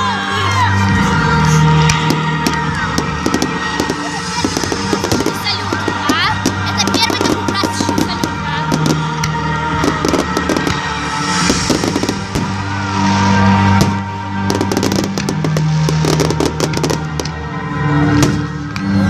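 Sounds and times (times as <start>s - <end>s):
loud music with low notes: 0.0s - 19.0s
fireworks cracking and banging: 0.9s - 19.0s.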